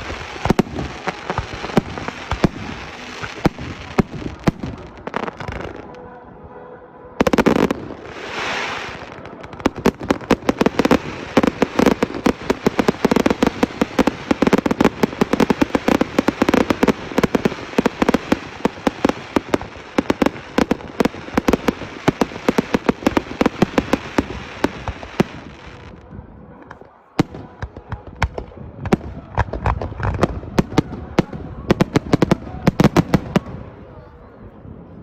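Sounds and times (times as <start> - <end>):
fireworks bangs and pops: 0.0 - 5.9, 7.2 - 26.0, 26.6 - 33.7.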